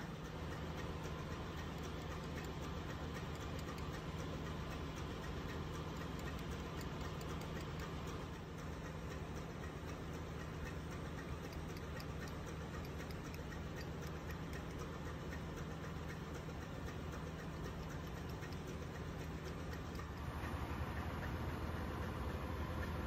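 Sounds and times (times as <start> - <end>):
engine room machinery hum: 0.0 - 23.0
faint rapid ticking: 0.0 - 23.0.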